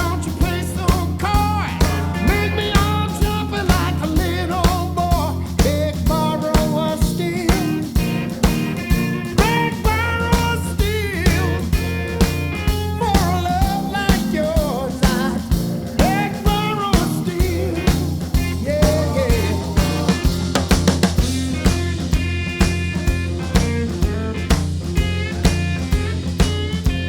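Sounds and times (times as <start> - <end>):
rock music with drum beat: 0.0 - 27.0.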